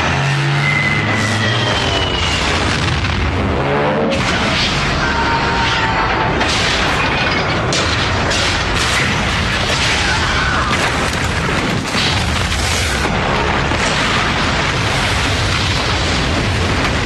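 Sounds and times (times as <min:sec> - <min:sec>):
din of explosions: 0:00.0 - 0:17.0
sudden blasts: 0:00.0 - 0:17.0.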